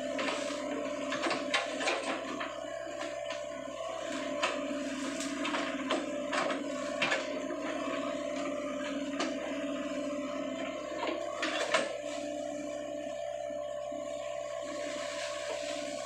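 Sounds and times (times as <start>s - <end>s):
excavator engine whining: 0.0s - 16.0s.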